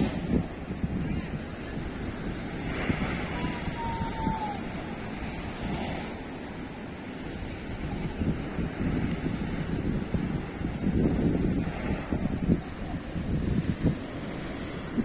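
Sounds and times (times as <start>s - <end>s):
surf breaking over rocks: 0.0s - 15.0s
wind buffeting microphone: 0.0s - 15.0s.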